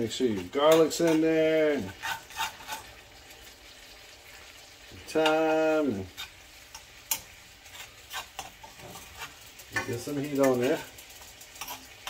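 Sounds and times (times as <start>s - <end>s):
butter sizzling in a skillet: 0.0s - 12.0s.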